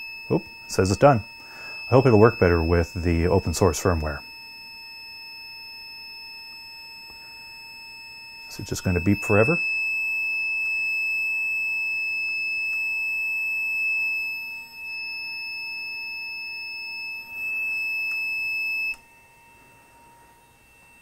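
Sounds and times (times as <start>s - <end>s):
continuous high-pitched beep: 0.0s - 19.6s.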